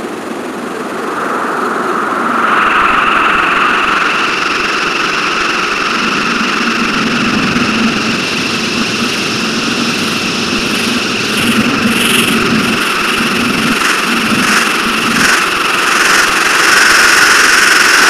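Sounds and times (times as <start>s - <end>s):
dense droning hiss: 0.0s - 16.9s
low hum: 0.0s - 17.9s.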